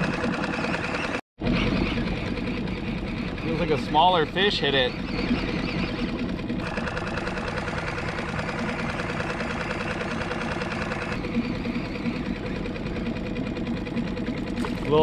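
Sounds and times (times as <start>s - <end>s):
outboard motor running: 0.0s - 15.0s
rhythmic whir: 0.0s - 15.0s.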